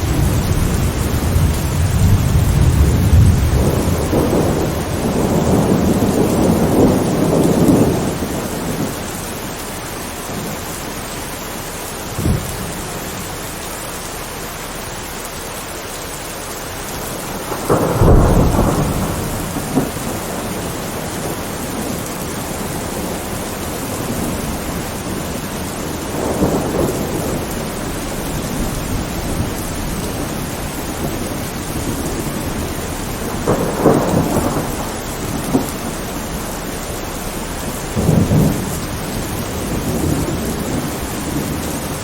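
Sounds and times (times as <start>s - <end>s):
thunder rumbling: 0.0s - 15.0s, 16.4s - 42.0s
rain hissing: 0.0s - 42.0s.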